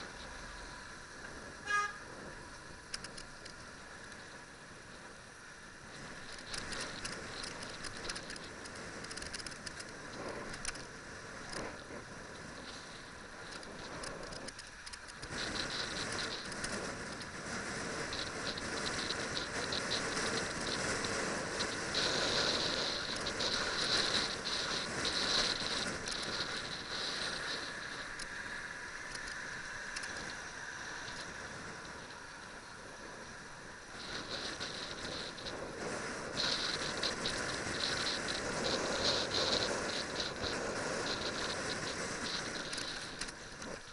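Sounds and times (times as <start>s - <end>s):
camera rattling on bicycle: 0.0s - 43.9s.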